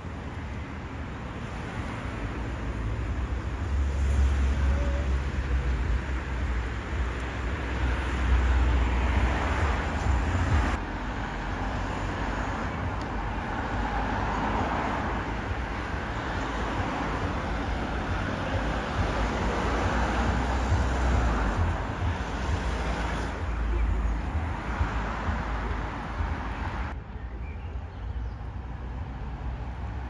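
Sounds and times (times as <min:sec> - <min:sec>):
cars driving past: 0:00.0 - 0:27.0.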